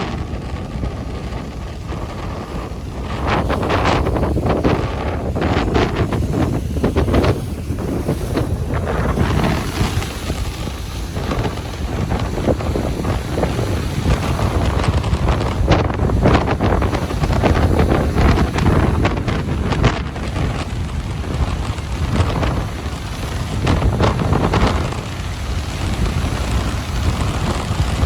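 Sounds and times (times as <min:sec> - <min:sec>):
heavy low rumble: 0:00.0 - 0:28.0
ocean surf breaking: 0:00.0 - 0:28.0
wind buffeting microphone: 0:00.0 - 0:28.0.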